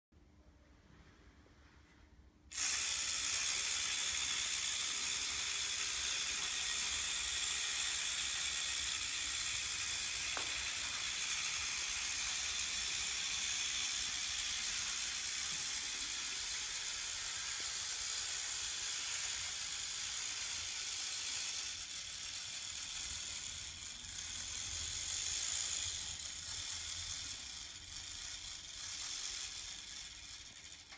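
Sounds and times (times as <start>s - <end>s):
clockwork toy motor whirring: 2.5s - 30.9s.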